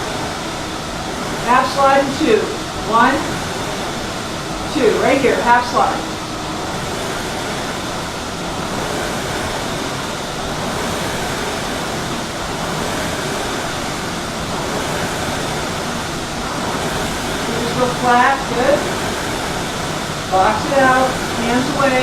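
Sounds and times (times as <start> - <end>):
rowing machine flywheels whooshing: 0.0 - 22.0.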